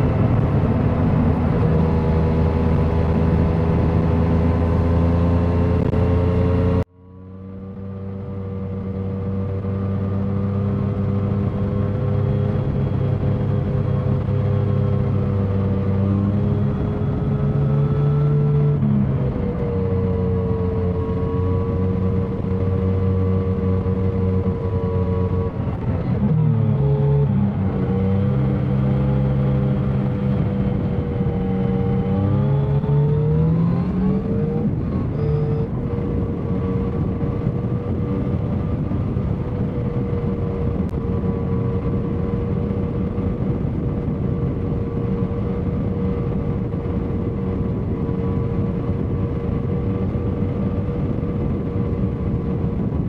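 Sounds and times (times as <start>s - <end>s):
motorcycle engine at speed: 0.0s - 53.0s.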